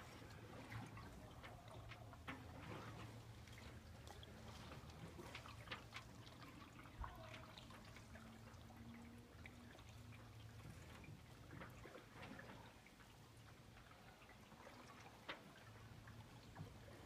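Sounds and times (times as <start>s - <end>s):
water dripping and trickling: 0.0s - 17.0s.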